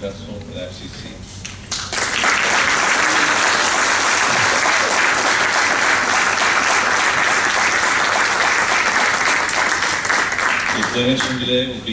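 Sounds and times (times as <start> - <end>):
audience applause: 1.7 - 11.4.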